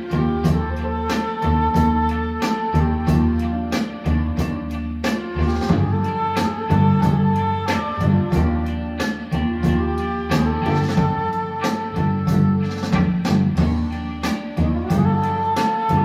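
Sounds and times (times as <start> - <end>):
funk music over loudspeakers: 0.0 - 16.0.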